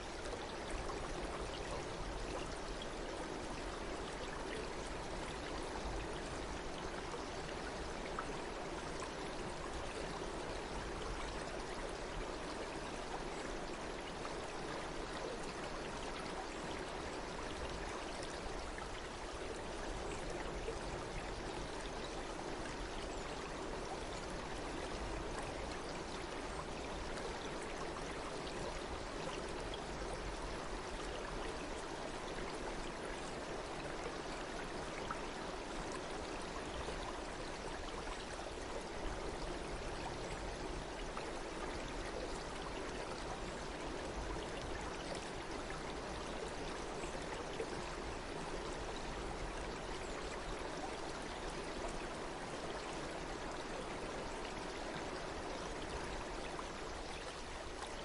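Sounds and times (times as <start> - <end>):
flowing water: 0.0 - 58.0.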